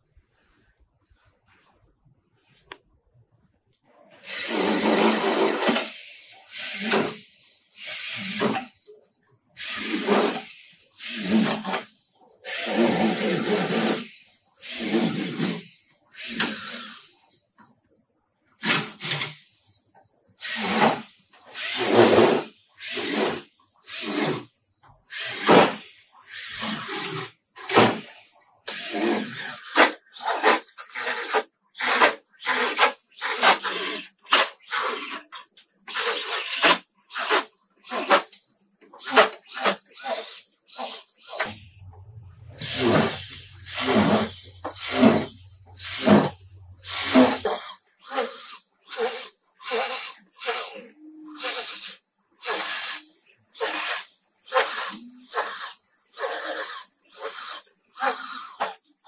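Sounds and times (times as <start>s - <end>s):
handheld power tool bursts: 4.2s - 8.8s, 9.6s - 17.2s, 20.4s - 41.9s, 42.5s - 58.9s.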